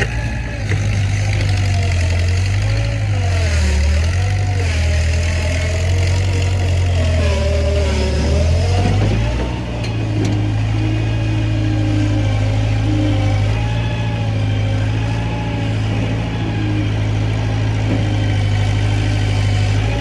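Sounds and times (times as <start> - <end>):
machine engine running: 0.0 - 20.0.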